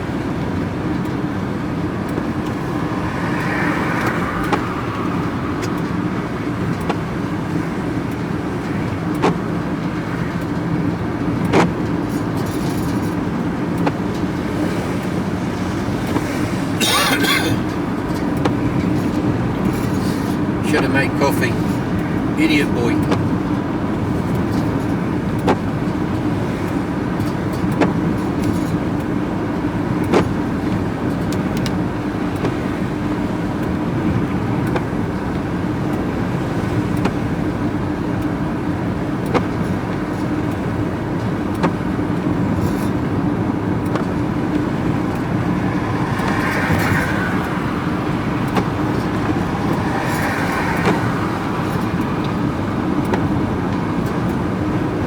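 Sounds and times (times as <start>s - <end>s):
road noise: 0.0s - 55.0s
vehicle engine drone: 0.0s - 55.0s.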